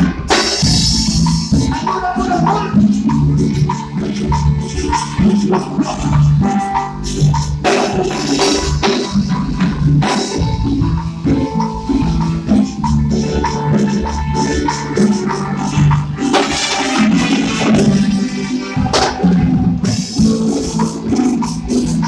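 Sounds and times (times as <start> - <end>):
shaken percussion: 0.0 - 18.1, 18.8 - 22.0
bass line: 0.0 - 22.0
drums: 0.0 - 22.0.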